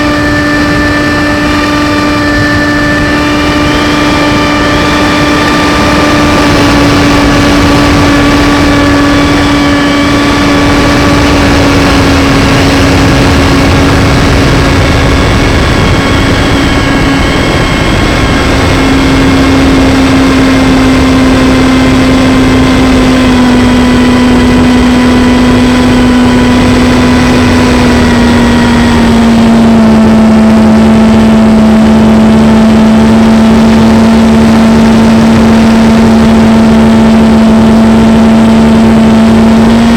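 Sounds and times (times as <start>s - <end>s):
model plane motor droning: 0.0s - 39.9s
rushing wind: 0.0s - 39.9s.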